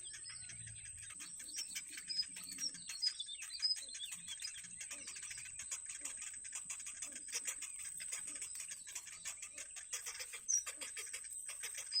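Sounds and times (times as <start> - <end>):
nestling birds chirping: 0.0 - 12.0.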